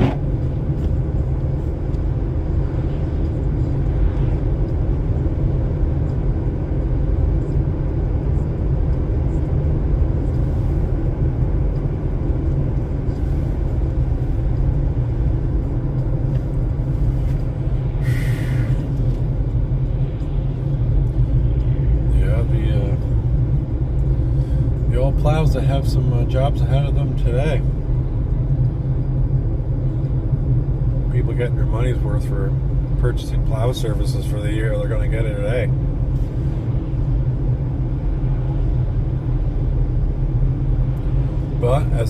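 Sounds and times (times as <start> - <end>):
car tyres and engine rumble: 0.0 - 42.0.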